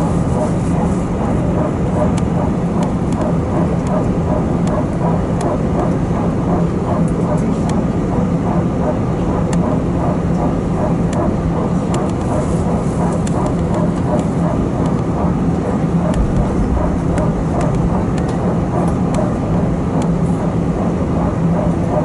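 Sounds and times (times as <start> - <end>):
aircraft cabin hum: 0.0 - 22.0
murmur of passengers' voices: 0.0 - 22.0.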